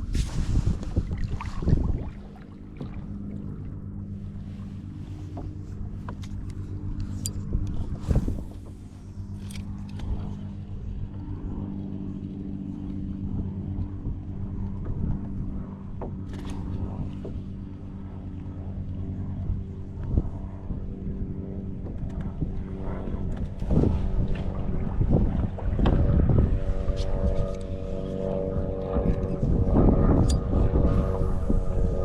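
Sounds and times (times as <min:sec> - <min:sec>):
boat motor running: 0:00.0 - 0:32.0.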